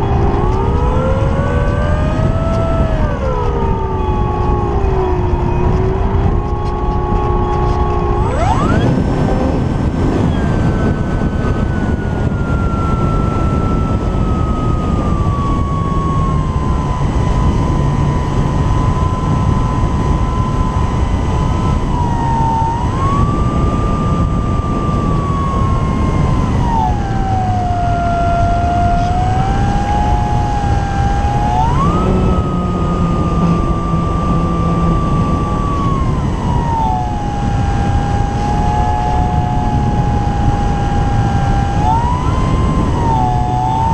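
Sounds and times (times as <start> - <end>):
electric motor and propeller whine: 0.0 - 43.9
wind rush on microphone: 0.0 - 43.9.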